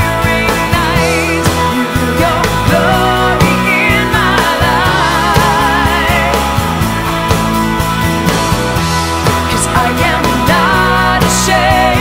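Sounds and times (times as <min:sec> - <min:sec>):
person singing: 0:00.0 - 0:07.0, 0:09.3 - 0:12.0
steady drum beat: 0:00.0 - 0:12.0.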